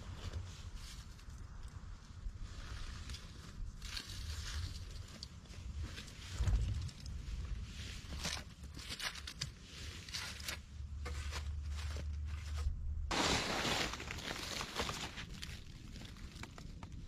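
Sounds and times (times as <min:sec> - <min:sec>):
rustling and crunching of leaves: 0:00.0 - 0:17.0.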